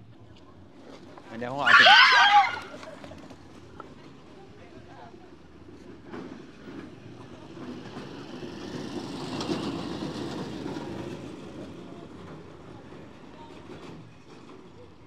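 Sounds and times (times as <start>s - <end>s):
motor tricycle engine passing: 0.4s - 15.0s.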